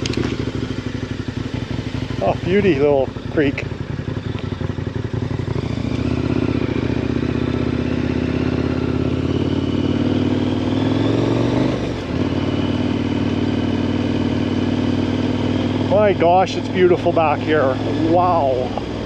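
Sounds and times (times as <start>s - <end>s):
motorcycle engine under throttle: 0.0s - 19.0s.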